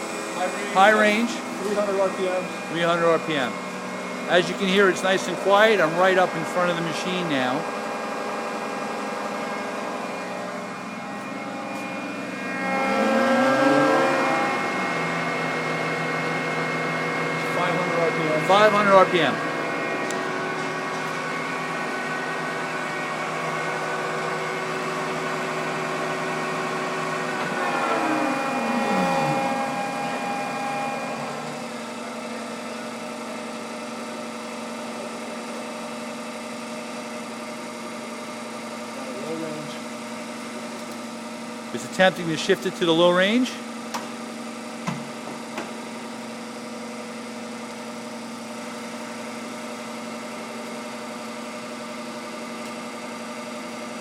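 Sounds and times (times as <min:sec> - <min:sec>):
lathe spindle whine: 0:00.0 - 0:54.0.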